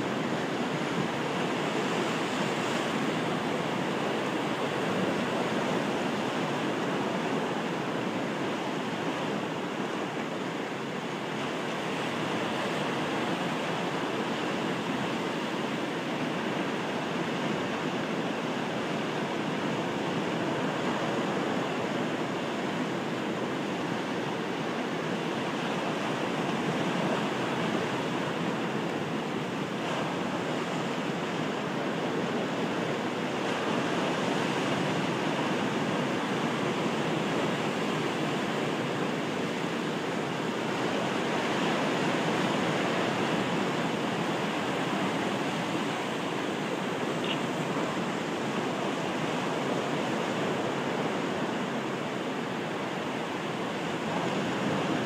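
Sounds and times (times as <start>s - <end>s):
surf breaking on rocky shore: 0.0s - 55.0s.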